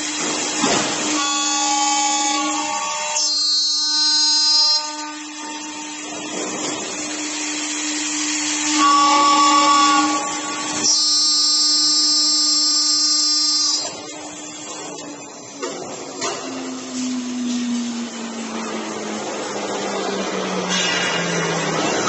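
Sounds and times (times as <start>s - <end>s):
cutting saw machine hum: 0.0s - 22.0s
high-pitched saw whine: 0.0s - 22.0s.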